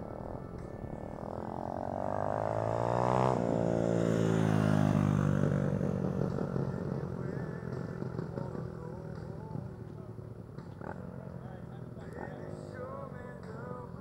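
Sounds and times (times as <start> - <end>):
dirt bike engine passing: 0.0 - 13.9.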